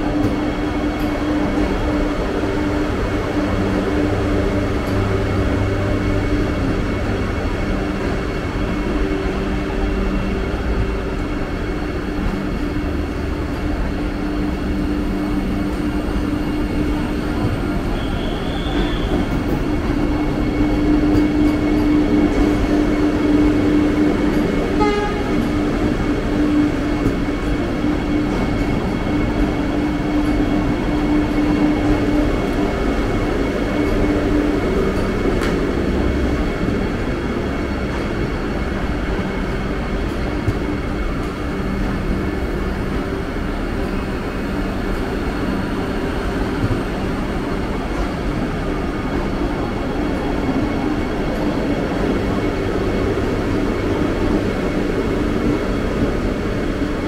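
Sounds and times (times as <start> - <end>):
electric train humming: 0.0 - 57.0.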